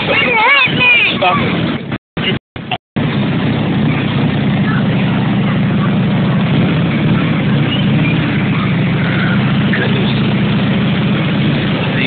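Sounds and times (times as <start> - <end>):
motorcycle engine running: 1.6 - 12.0.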